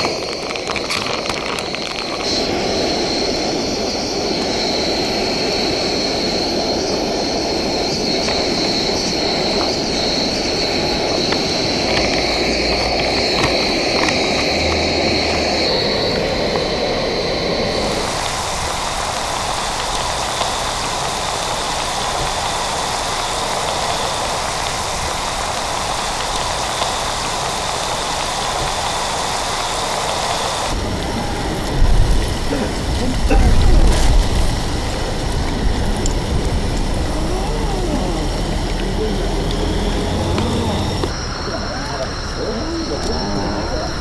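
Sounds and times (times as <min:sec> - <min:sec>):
battered fish deep-frying in oil: 0:00.0 - 0:44.0.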